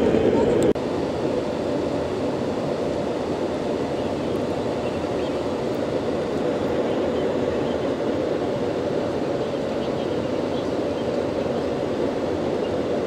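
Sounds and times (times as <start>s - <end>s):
airliner cabin engine noise: 0.0s - 13.0s.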